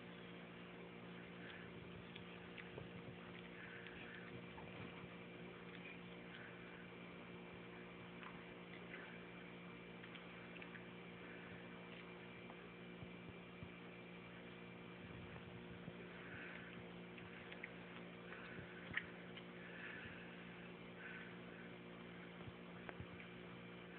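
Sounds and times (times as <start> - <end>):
low hum: 0.0 - 23.9.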